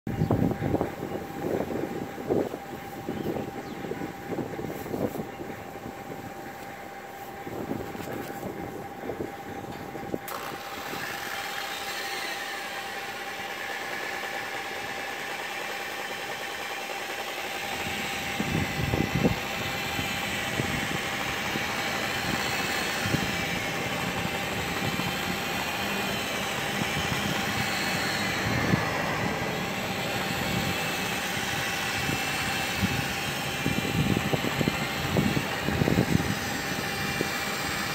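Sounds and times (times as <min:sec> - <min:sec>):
electric polisher motor whine: 0:00.1 - 0:37.9.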